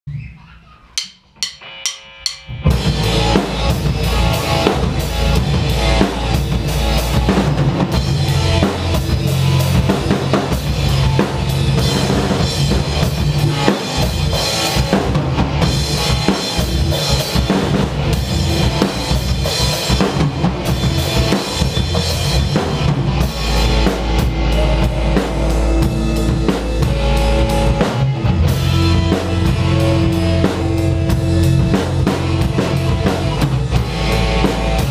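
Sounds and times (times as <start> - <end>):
drum kit: 0.8 - 34.9
electric guitars: 1.6 - 34.9.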